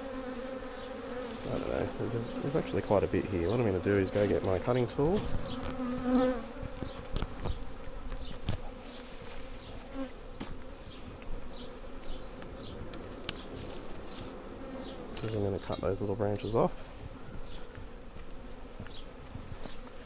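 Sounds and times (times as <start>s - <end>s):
bee swarm buzzing: 0.0s - 20.0s.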